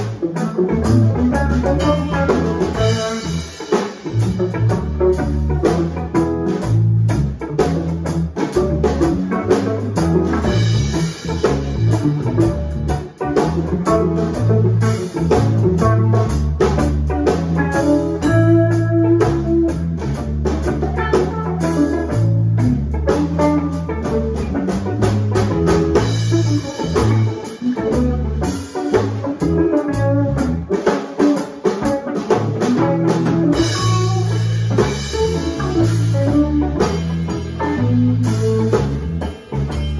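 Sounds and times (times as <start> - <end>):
bass guitar line: 0.0 - 39.9
busy drumming: 0.0 - 39.9
electric guitars: 0.0 - 39.9.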